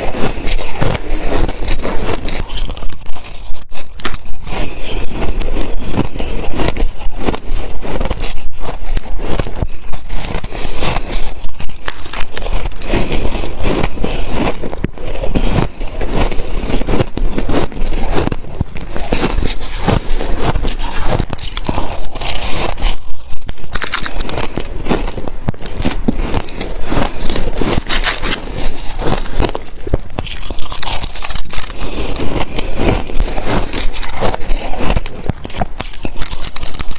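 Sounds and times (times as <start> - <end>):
crunching shaved ice: 0.0 - 36.9.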